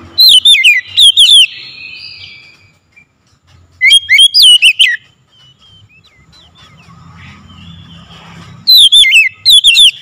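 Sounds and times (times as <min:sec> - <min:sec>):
bird whistled calls: 0:00.0 - 0:03.2, 0:03.8 - 0:10.0.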